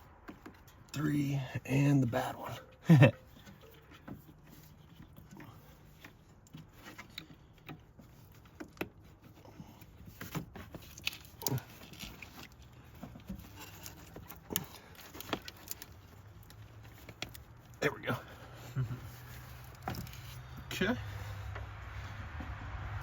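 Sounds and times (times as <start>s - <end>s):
light clicks and knocks of parts: 0.0s - 1.6s, 2.4s - 23.0s.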